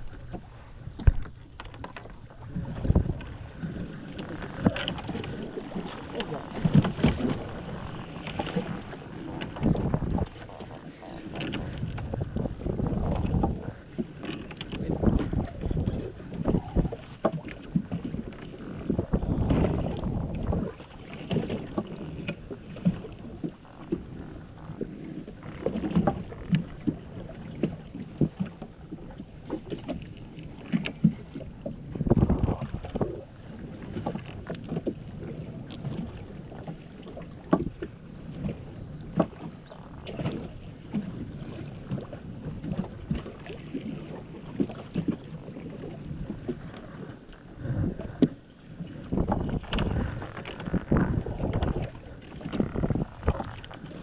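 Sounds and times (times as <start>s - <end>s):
knocks and clatter on boat: 0.0s - 54.0s
water noise: 0.0s - 54.0s
wind: 0.0s - 54.0s.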